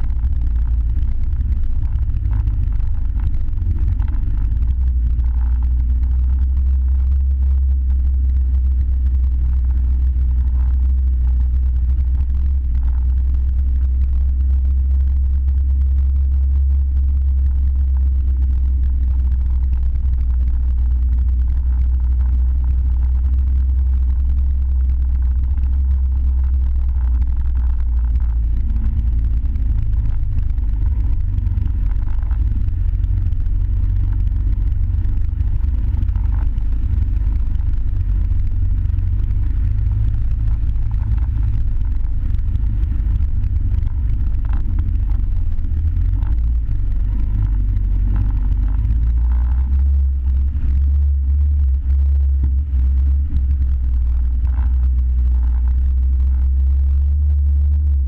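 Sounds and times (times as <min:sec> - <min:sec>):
vehicle engine and drivetrain drone: 0:00.0 - 0:58.0.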